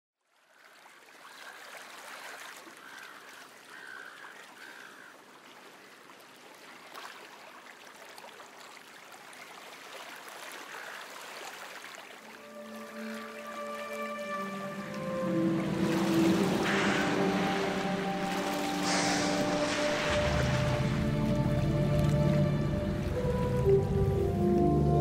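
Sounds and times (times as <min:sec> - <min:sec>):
running water: 0:00.3 - 0:25.0.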